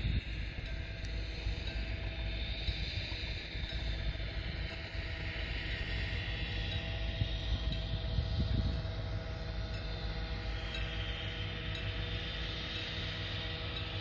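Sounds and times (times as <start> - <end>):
wind buffeting microphone: 0.0 - 11.4
distant diesel locomotive hum: 0.0 - 14.0.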